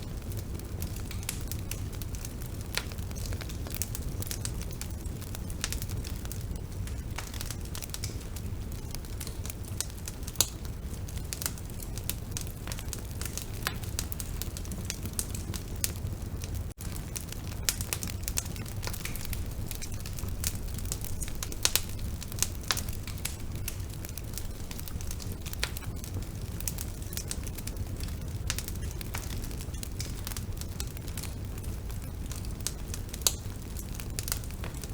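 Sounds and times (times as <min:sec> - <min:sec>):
bonfire crackling and popping: 0:00.0 - 0:34.9
low rumble of bonfire: 0:00.0 - 0:34.9.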